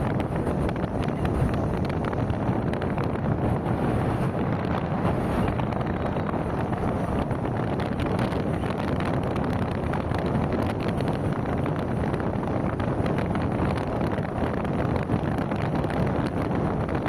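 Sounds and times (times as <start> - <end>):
car road noise on highway: 0.0 - 17.0
wind buffeting microphone: 0.0 - 17.0.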